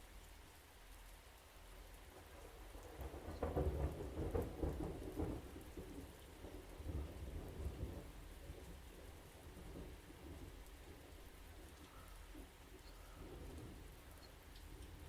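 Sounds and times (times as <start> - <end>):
steady rain: 0.0 - 15.0
thunder rumbling: 2.2 - 15.0.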